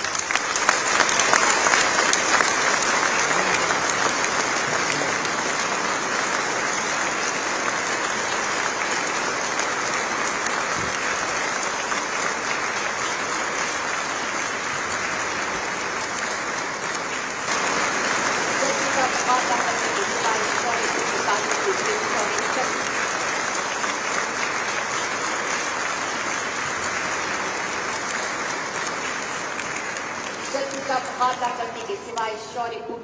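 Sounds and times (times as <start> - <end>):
audience applauding: 0.0 - 32.4.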